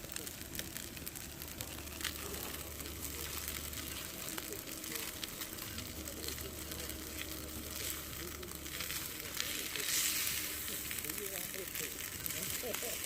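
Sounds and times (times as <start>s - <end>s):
fire crackles: 0.0s - 13.0s
food sizzling over fire: 0.0s - 13.0s.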